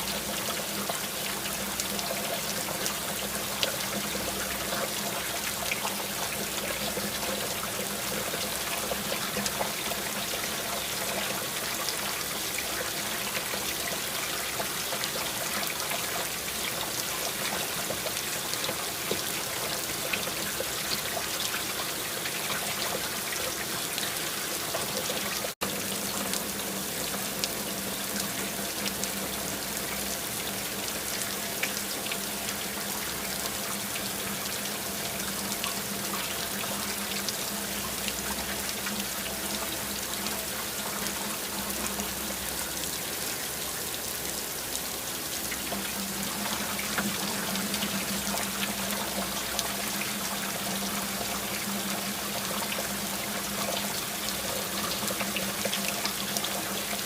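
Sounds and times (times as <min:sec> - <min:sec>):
steady rain patter: 0:00.0 - 0:57.0
trickle of running water: 0:00.0 - 0:57.0.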